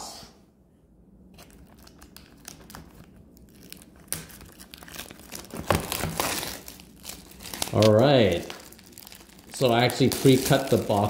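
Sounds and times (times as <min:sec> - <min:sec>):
plastic shrink wrap crinkling: 0:01.4 - 0:11.0.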